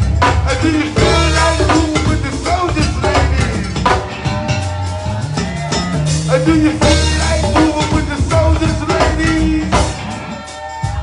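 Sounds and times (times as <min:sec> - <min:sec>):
deep bass line: 0:00.0 - 0:11.0
drum and percussion hits: 0:00.0 - 0:11.0.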